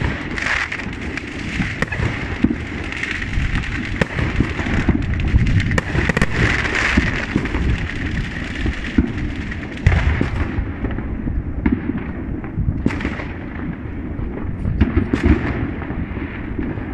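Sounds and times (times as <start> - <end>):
fireworks crackling and banging: 0.0 - 16.9.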